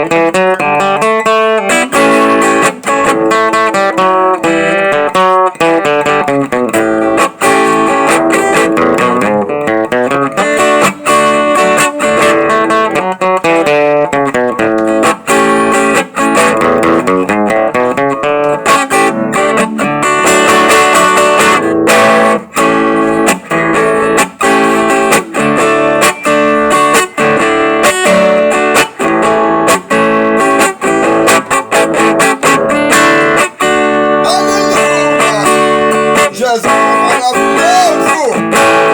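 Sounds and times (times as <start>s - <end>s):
solo acoustic guitar: 0.0s - 38.9s.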